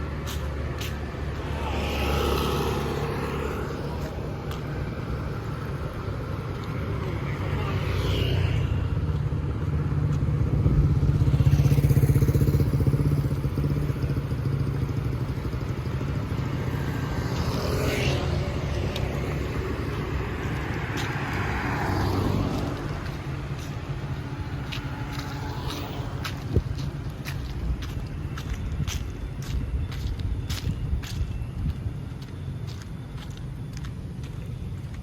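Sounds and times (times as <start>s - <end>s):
motorbikes passing: 0.0s - 35.0s.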